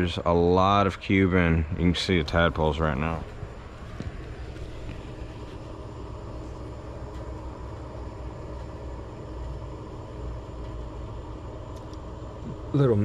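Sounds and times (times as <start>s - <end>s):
faint constant hum: 0.0s - 13.0s
low background rumble: 0.0s - 13.0s.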